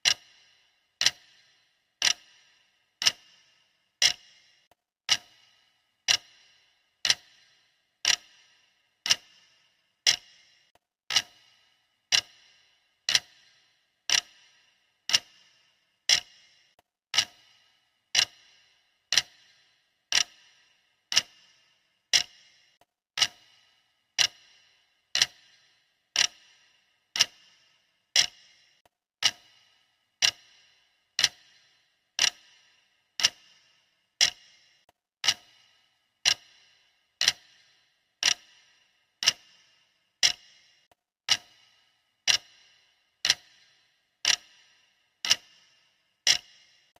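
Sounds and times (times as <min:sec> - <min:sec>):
clock ticking: 0:00.0 - 0:46.9.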